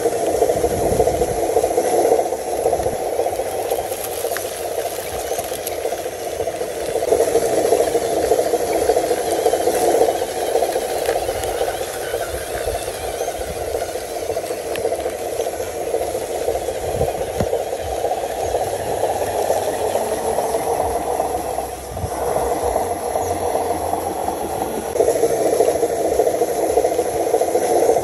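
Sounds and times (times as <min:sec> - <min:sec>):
model truck motor whirring: 0:00.0 - 0:28.0.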